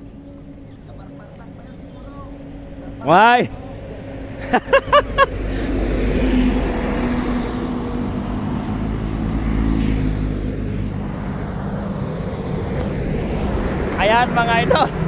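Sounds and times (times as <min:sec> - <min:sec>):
truck passing on highway: 0:00.0 - 0:15.0.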